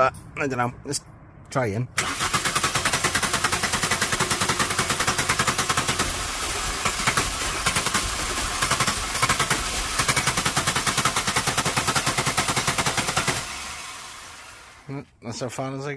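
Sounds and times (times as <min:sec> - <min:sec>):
starter motor cranking engine: 0:02.0 - 0:14.9.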